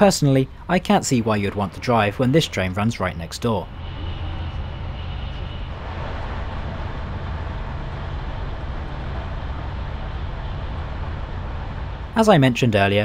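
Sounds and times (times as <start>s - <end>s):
faint high whine: 0.0s - 13.0s
train rumble and rushing: 0.0s - 13.0s.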